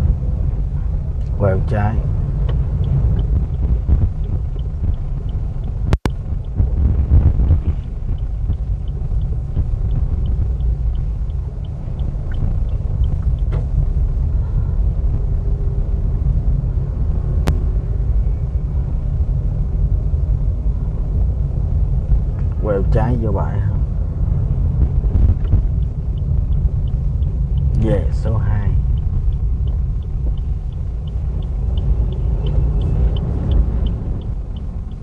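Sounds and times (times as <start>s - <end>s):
turn signal ticking: 0.0s - 18.1s, 23.8s - 35.0s
road and engine rumble: 0.0s - 35.0s.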